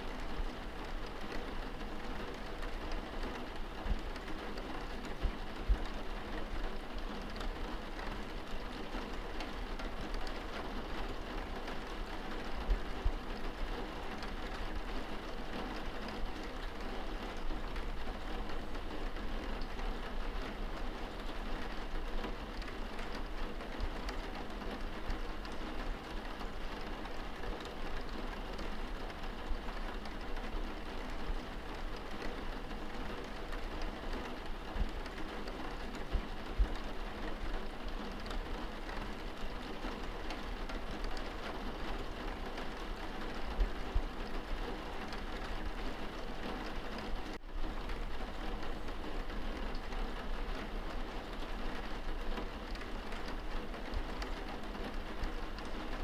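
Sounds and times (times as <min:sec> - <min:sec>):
rain on window glass: 0:00.0 - 0:56.0.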